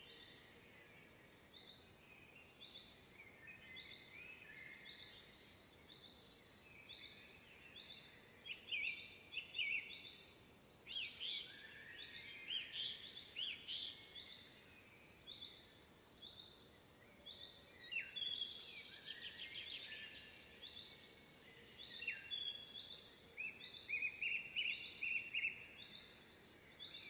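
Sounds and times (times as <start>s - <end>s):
songbirds chirping and singing: 0.0s - 27.0s.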